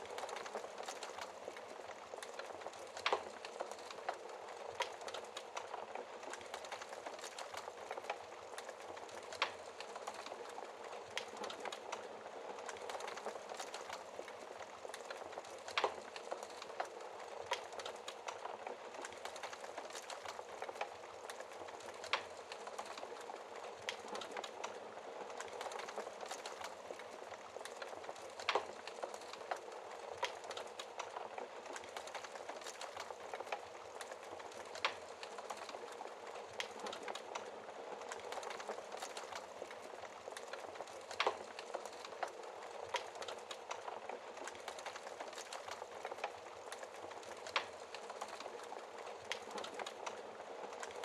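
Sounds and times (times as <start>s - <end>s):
fire popping: 0.0s - 51.0s
wood fire crackling: 0.0s - 51.0s.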